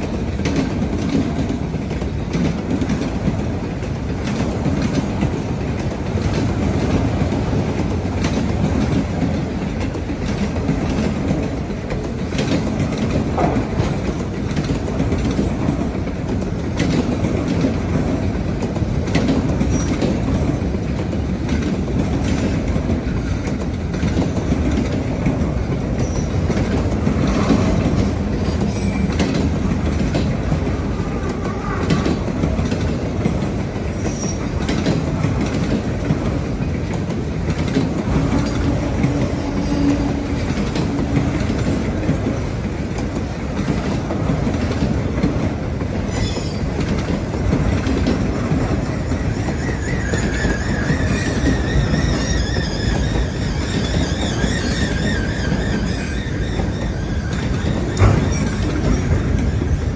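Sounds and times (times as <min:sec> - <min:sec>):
train wheels rumbling on rails: 0:00.0 - 0:59.9
wheels clicking over rail joints: 0:00.0 - 0:59.9.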